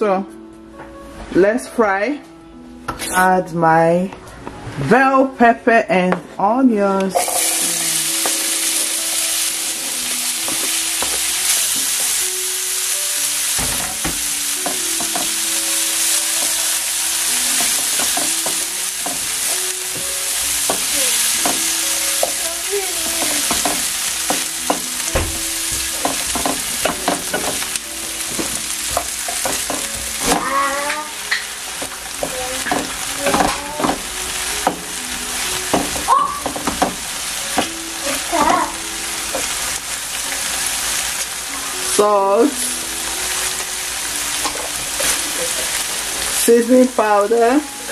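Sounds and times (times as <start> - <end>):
vegetables sizzling in a pan: 7.1 - 47.9.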